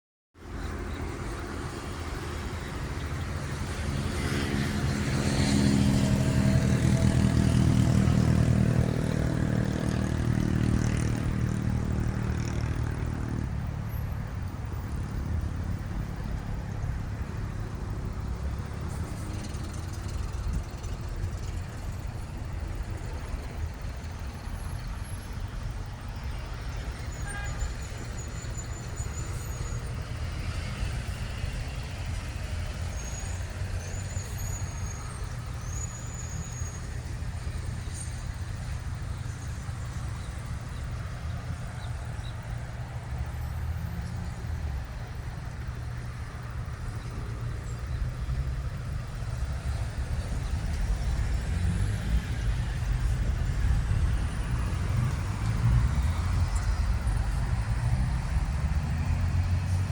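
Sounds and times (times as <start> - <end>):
heavy vehicle engine passing: 0.4 - 59.9
traffic noise: 0.4 - 59.9.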